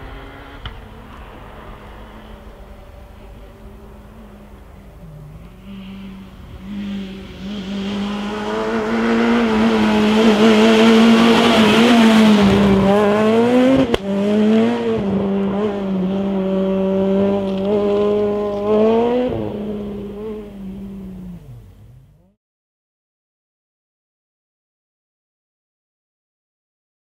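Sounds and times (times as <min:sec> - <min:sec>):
exhaust crack: 0:00.0 - 0:22.3
rally car engine at full throttle: 0:00.0 - 0:22.4.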